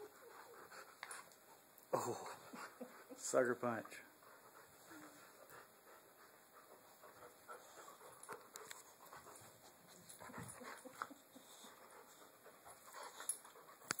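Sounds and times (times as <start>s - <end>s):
dogs breathing and scuffling: 0.0s - 14.0s.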